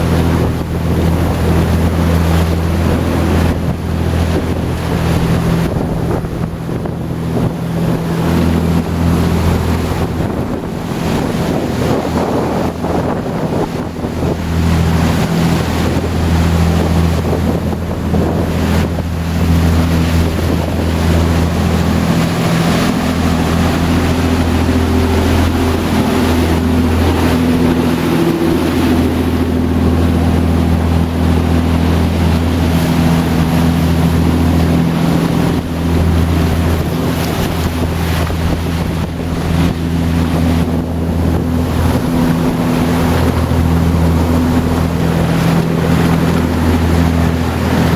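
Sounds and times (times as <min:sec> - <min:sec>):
boat engine droning: 0:00.0 - 0:47.9
water rushing past hull: 0:00.0 - 0:47.9
wind buffeting microphone: 0:00.0 - 0:47.9.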